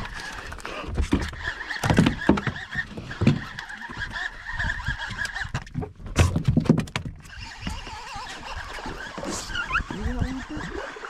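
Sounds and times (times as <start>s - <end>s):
fishing reel gear whir: 0.0s - 5.7s, 7.2s - 11.0s.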